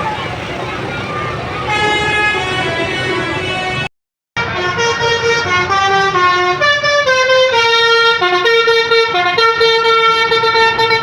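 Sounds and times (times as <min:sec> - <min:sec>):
bus multi-tone horn playing a tune: 0:00.0 - 0:11.0.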